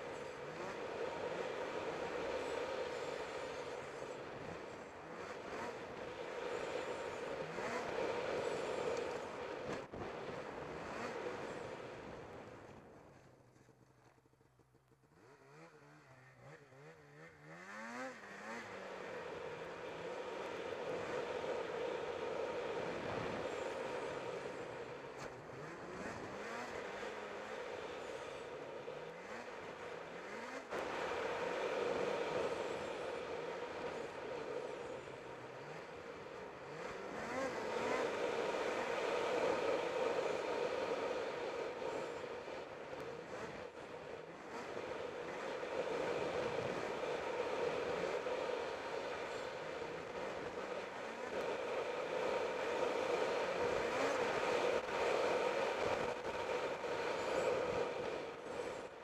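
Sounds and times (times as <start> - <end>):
snowmobile engine revving: 0.0 - 12.7, 15.2 - 59.0
snowmobile track noise: 0.0 - 59.0.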